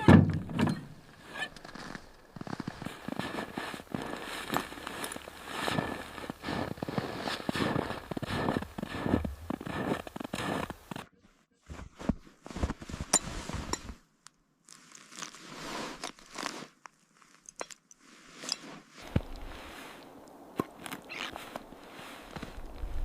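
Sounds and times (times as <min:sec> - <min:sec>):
crunching and rustling: 0:01.0 - 0:11.1, 0:14.6 - 0:23.0.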